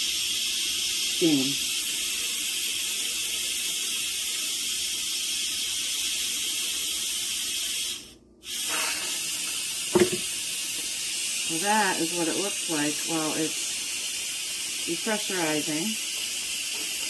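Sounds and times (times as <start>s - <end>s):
steam hissing from valve: 0.0s - 17.0s.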